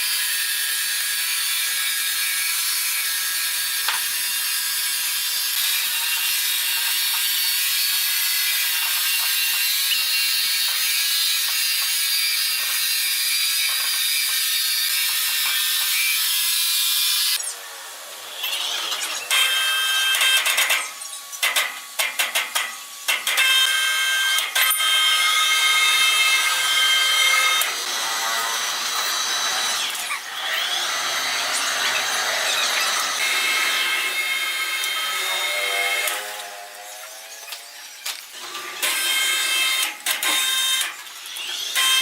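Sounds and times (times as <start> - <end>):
power saw cutting wood: 0.0 - 42.0.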